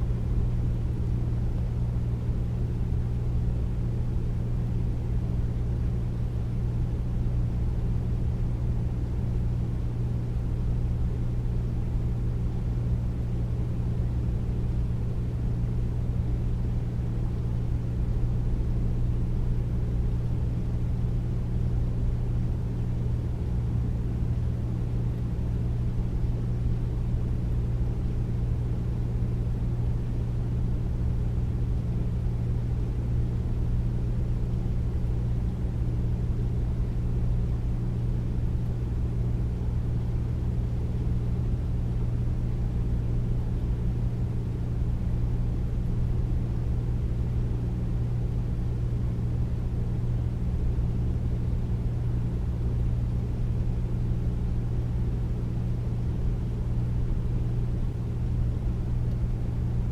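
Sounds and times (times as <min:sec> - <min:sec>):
air conditioner running: 0:00.0 - 0:59.9.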